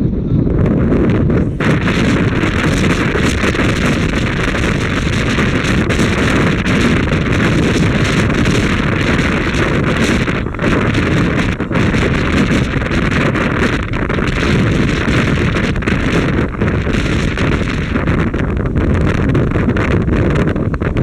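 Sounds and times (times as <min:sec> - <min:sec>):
moving train rumble: 0:00.0 - 0:21.0
wind buffeting microphone: 0:00.0 - 0:21.0.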